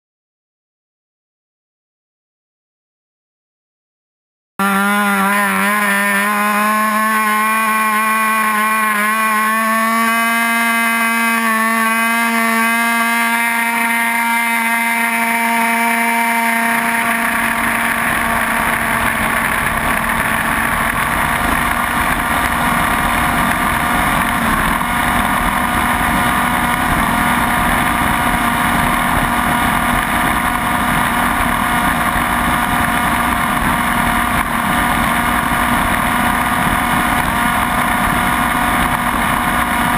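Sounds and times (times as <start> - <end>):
model engine buzzing: 4.6 - 39.9
rough rushing noise: 4.6 - 39.9.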